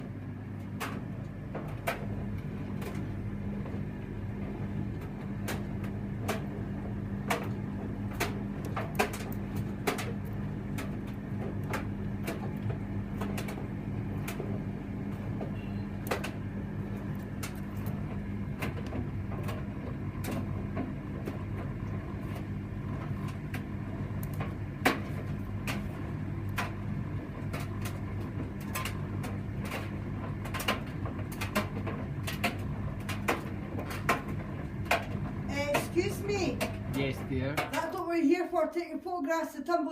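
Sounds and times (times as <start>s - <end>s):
tumble dryer motor hum: 0.0s - 39.9s.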